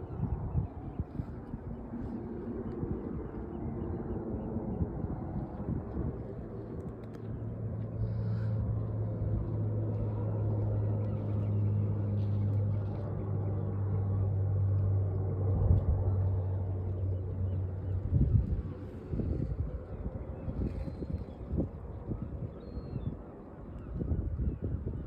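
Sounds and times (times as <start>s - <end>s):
low engine hum: 0.0s - 25.0s
rumbling outdoor background noise: 0.0s - 25.0s.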